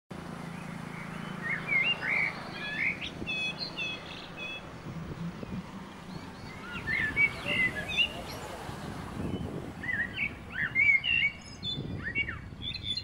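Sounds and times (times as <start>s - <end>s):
small birds singing: 0.2s - 13.0s.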